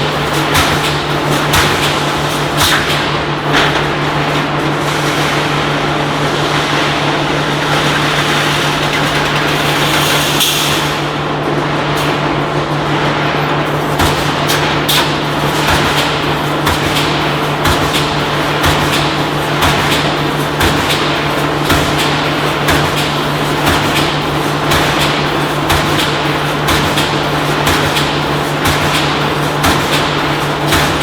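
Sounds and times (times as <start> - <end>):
welding machine electrical hum: 0.0 - 31.0
workshop noise: 0.0 - 31.0.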